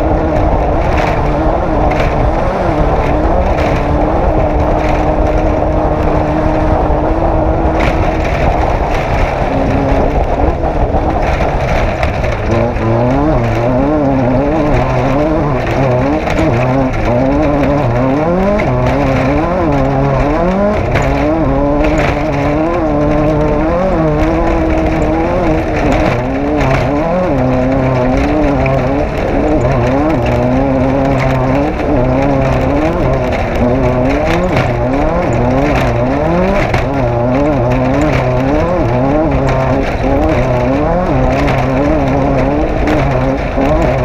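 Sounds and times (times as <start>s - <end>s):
race vehicle engine revving: 0.0s - 44.0s.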